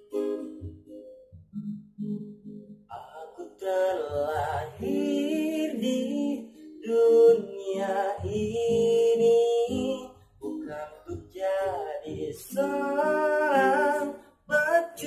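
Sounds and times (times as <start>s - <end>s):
guitar accompaniment: 0.0s - 15.0s
man singing held notes: 2.9s - 15.0s.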